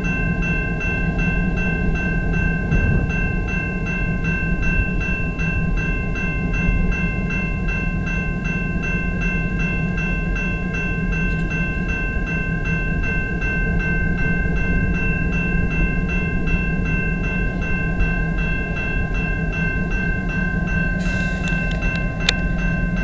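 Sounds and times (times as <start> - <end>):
diesel locomotive rumble: 0.0 - 23.0
railroad crossing bell ringing: 0.0 - 23.0.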